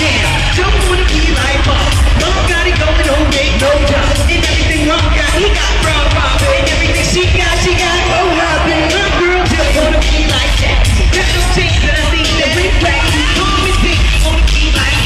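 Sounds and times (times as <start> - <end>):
live pop band with lead vocal: 0.0 - 15.0.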